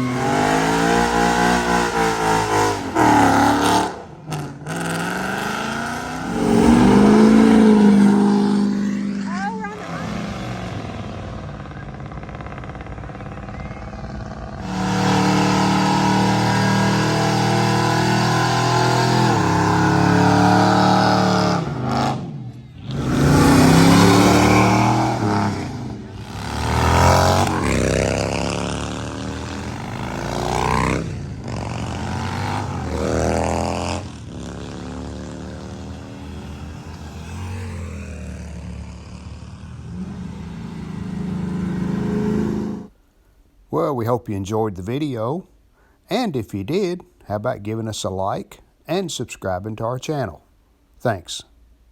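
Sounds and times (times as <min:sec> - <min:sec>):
car engines accelerating: 0:00.0 - 0:43.0.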